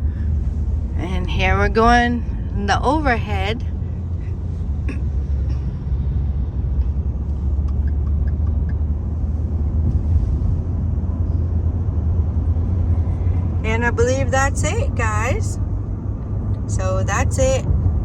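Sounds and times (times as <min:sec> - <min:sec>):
car interior road and engine noise: 0:00.0 - 0:18.0.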